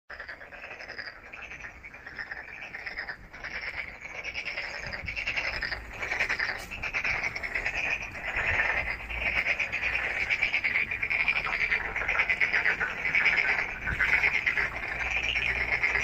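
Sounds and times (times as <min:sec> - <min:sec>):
frogs trilling chorus: 0:00.1 - 0:16.0.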